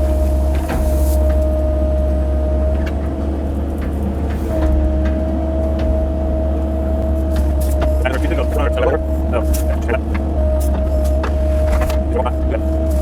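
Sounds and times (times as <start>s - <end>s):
excavator engine running: 0.0s - 13.0s
hydraulic whine: 0.0s - 13.0s.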